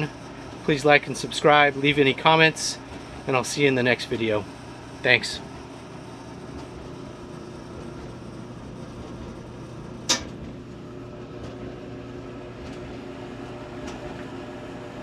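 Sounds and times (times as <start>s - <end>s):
dryer motor and blower hum: 0.0s - 15.0s.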